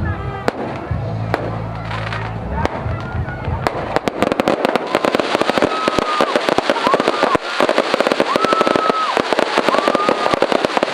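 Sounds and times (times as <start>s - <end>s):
fireworks crackling bangs: 0.2s - 10.9s.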